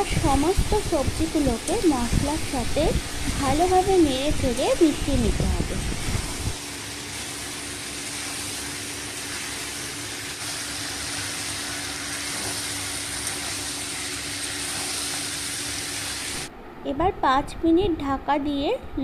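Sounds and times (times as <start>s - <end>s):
vegetables sizzling in oil: 0.0s - 16.5s.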